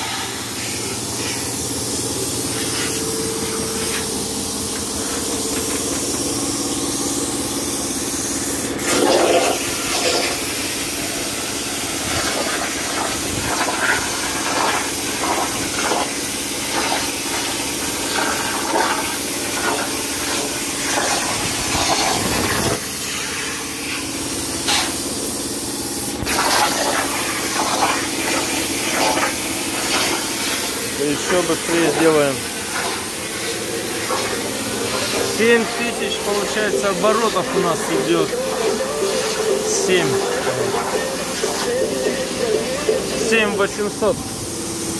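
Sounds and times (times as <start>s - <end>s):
plasma arc hissing: 0.0s - 44.9s.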